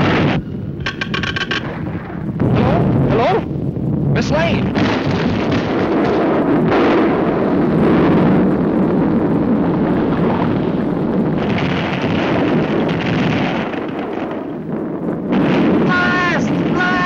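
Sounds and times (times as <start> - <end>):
cartoon volcano rumble: 0.0 - 17.0.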